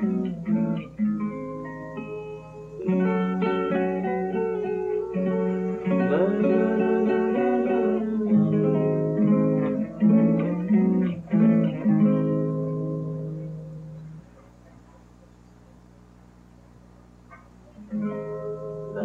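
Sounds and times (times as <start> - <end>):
fingerstyle classical guitar: 0.0 - 14.3, 17.3 - 19.0.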